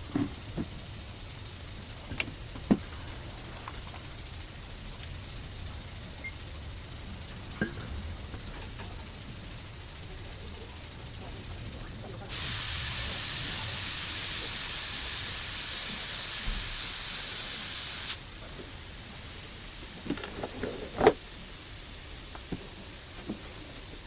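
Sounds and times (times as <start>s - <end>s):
pressurised gas hissing: 0.0s - 24.0s.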